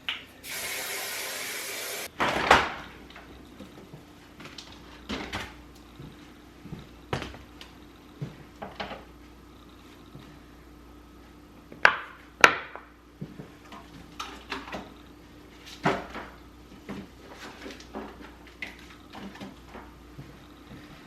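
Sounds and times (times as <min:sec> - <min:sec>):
faint steady hum: 0:02.8 - 0:21.0.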